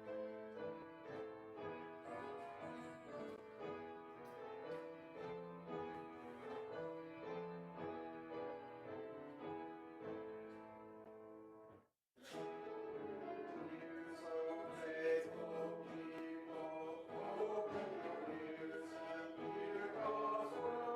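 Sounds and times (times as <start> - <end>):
slow classical keyboard music: 0.0 - 20.9.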